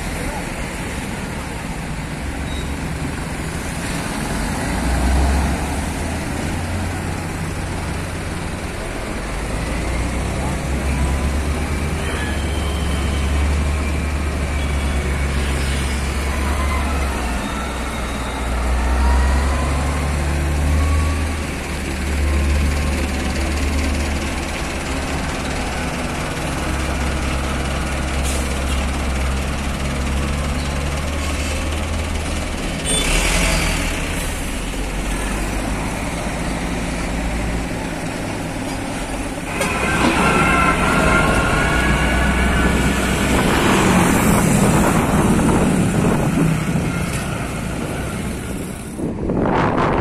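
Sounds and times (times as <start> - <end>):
diesel engines rumbling: 0.0 - 50.0.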